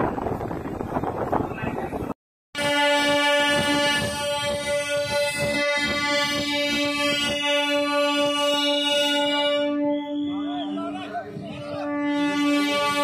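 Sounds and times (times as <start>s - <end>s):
train horn blast: 2.6s - 13.0s.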